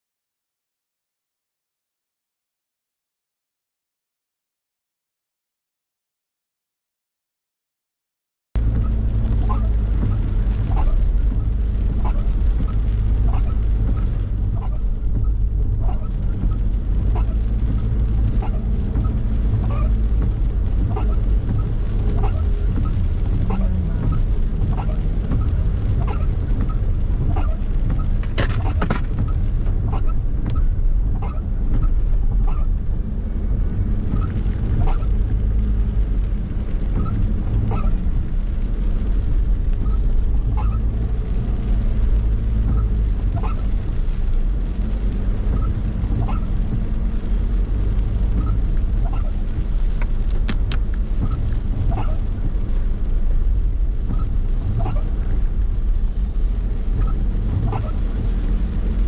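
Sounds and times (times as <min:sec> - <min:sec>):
vehicle driving in rain: 0:08.6 - 0:59.0.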